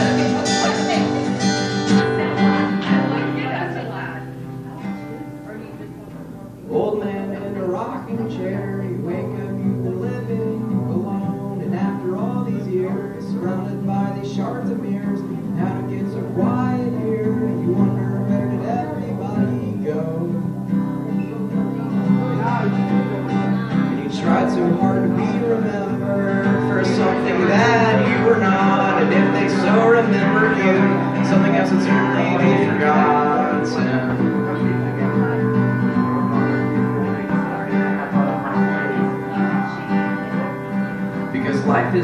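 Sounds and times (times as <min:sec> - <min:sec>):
acoustic guitar strummed chords: 0:00.0 - 0:42.0.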